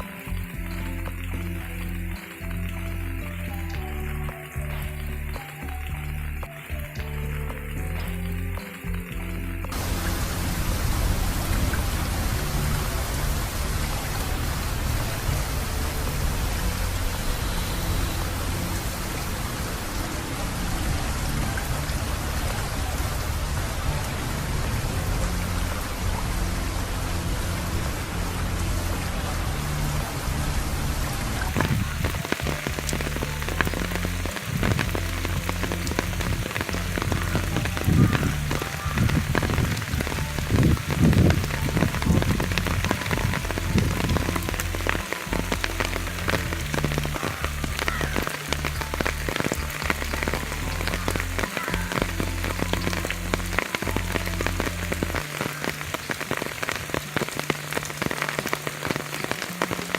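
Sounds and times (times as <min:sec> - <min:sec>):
rain hissing: 0:00.0 - 0:59.9
raindrops ticking on surfaces: 0:00.0 - 0:59.9.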